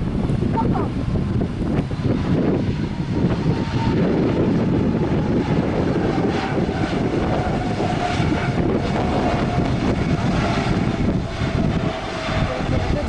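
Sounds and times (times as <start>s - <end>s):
jet engines passing: 0.0s - 13.0s
wind buffeting microphone: 0.0s - 13.0s.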